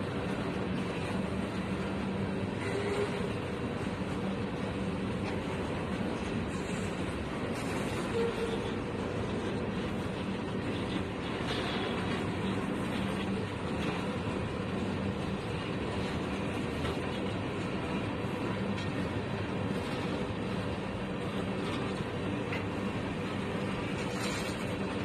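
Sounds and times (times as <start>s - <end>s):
freight train wheels on rails: 0.0s - 25.0s.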